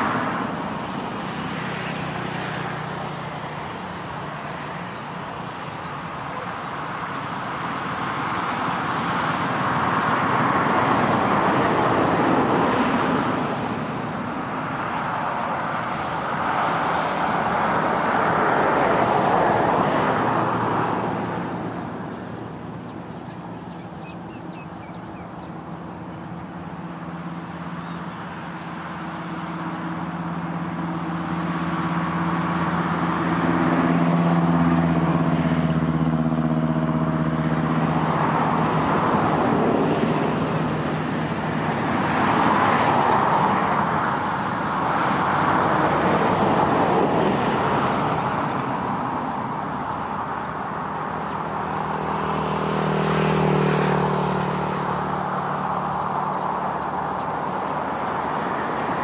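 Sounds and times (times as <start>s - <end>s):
diesel engines of heavy machinery: 0.0s - 59.0s.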